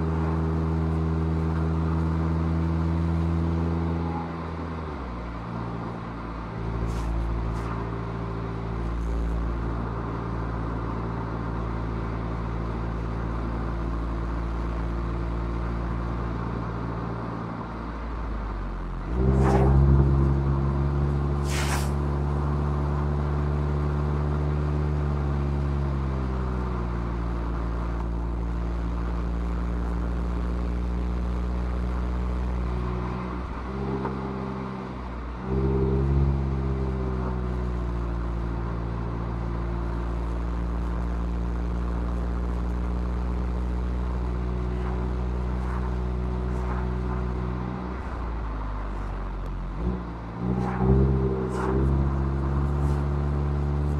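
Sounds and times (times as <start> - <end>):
car engine pulling uphill: 0.0 - 53.9.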